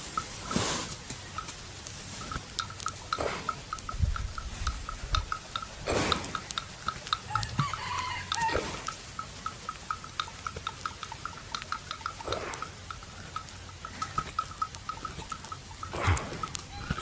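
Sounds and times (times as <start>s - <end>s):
buffalo chewing: 0.0s - 17.0s
short high ticks: 0.0s - 17.0s.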